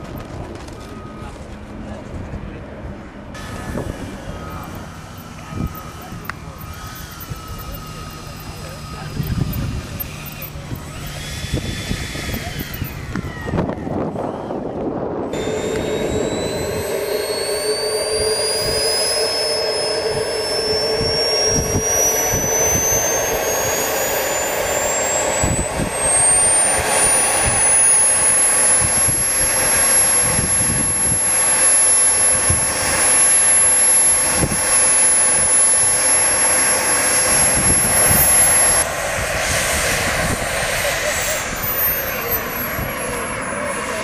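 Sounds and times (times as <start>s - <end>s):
jet engine whine rising: 0.0s - 44.0s
rushing jet noise: 3.4s - 44.0s.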